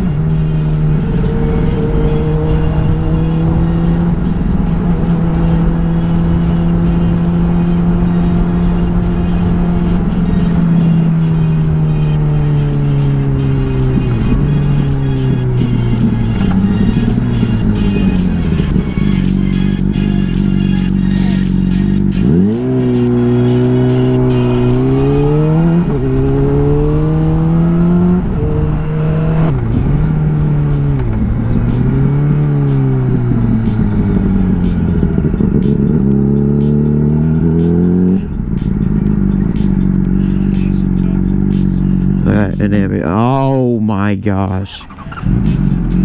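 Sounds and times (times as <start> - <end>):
motorcycle engine revving: 0.0 - 42.8, 44.8 - 46.0.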